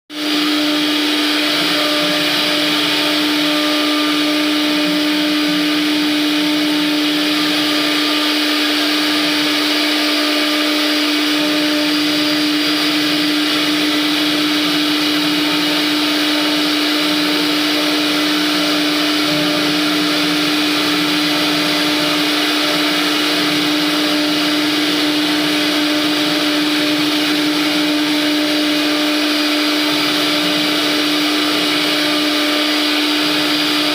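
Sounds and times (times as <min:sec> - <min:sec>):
router motor whine: 0:00.1 - 0:33.9
wood cutting hiss: 0:00.2 - 0:33.9.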